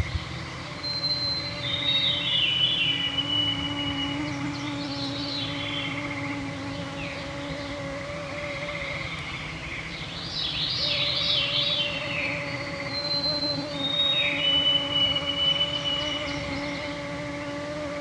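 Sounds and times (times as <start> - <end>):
mosquitoes whining: 0.0 - 18.0.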